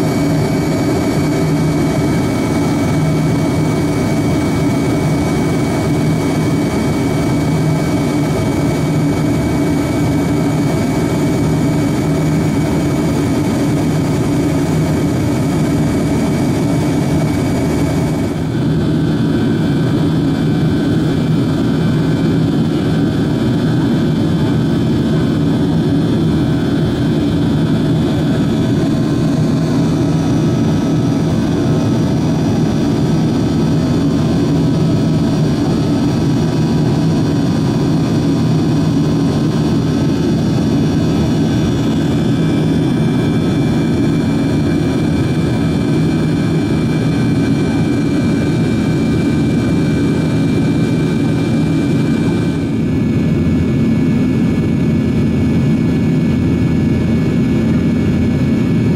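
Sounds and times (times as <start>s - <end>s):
jet engines droning in cabin: 0.0s - 58.9s.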